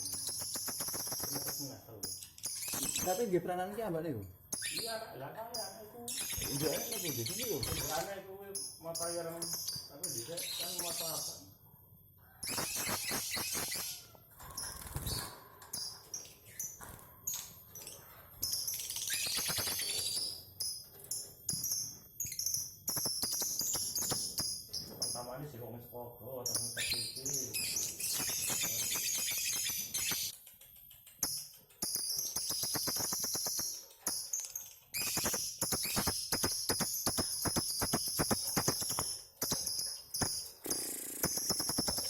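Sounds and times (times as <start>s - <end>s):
lovebird rattling trill: 0.0s - 3.4s, 4.5s - 11.4s, 12.2s - 25.3s, 26.4s - 42.0s
lovebirds chirping: 0.0s - 30.4s, 31.2s - 42.0s.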